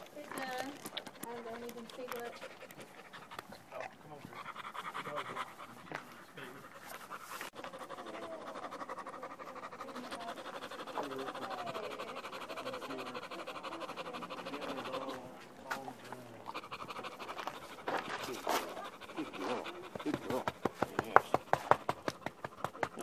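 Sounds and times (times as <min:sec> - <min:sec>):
faint voices: 0:00.0 - 0:21.6
dog panting: 0:00.0 - 0:23.0.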